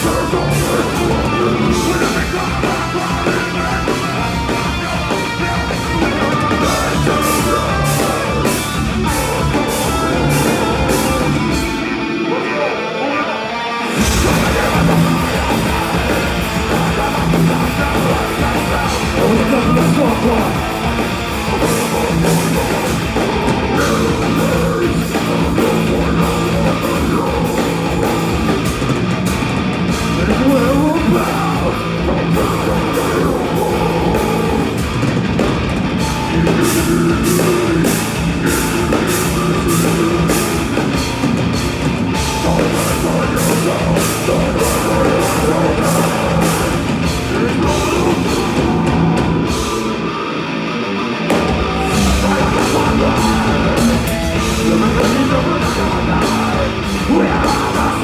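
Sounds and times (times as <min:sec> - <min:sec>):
harsh vocals: 0:00.0 - 0:58.0
heavy metal band playing: 0:00.0 - 0:58.0.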